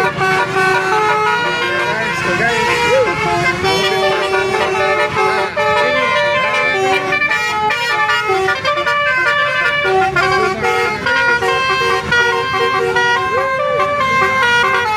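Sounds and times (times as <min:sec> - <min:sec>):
multi-tone musical horns: 0:00.0 - 0:14.9.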